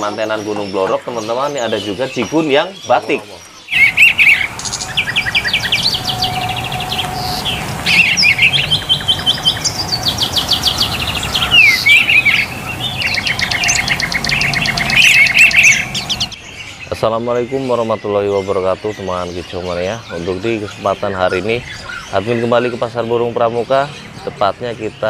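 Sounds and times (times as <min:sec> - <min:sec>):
songbirds singing and chirping: 0:00.0 - 0:25.0.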